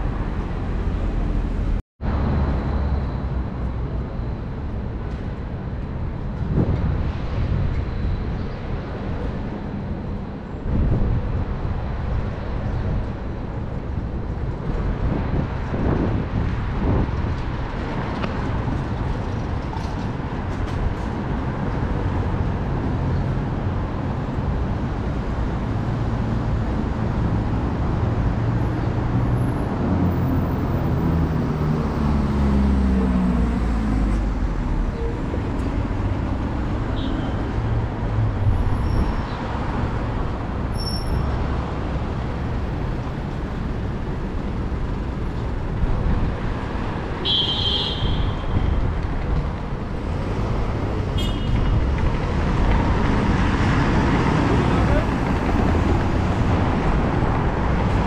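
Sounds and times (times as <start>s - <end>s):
motor vehicles running: 0.0s - 58.0s.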